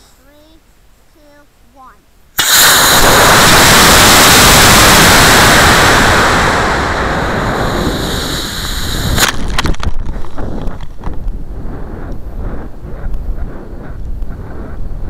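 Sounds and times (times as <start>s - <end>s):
rocket motor hissing: 2.4s - 15.0s.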